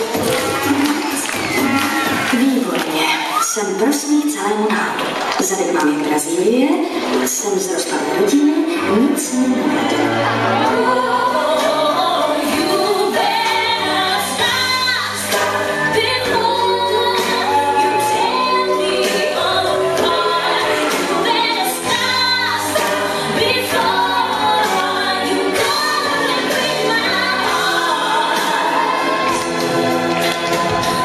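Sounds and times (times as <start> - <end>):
song with singing over beat: 0.0 - 31.0.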